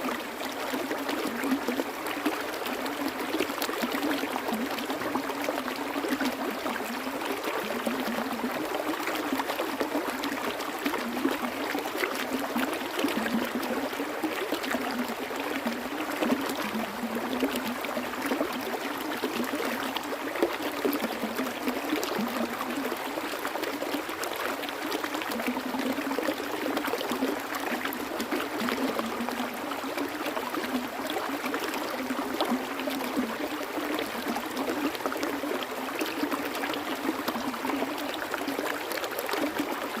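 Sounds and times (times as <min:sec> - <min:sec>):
small stream trickling: 0:00.0 - 0:40.0.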